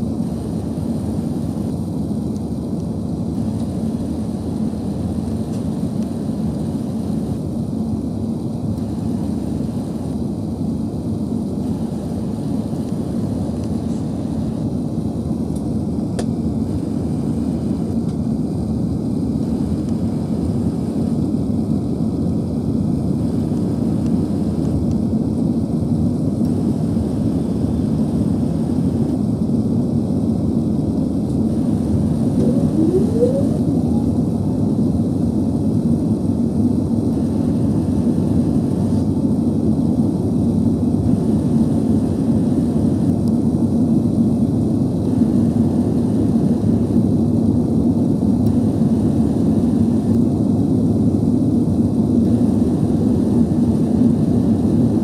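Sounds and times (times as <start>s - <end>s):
airplane engine drone in cabin: 0.0s - 55.0s.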